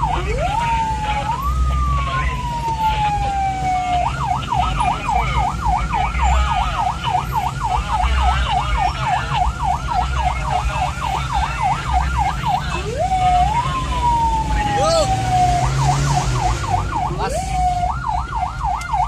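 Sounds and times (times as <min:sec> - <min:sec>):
ambulance siren yelp and wail: 0:00.0 - 0:19.0
engine rumble: 0:00.0 - 0:19.0.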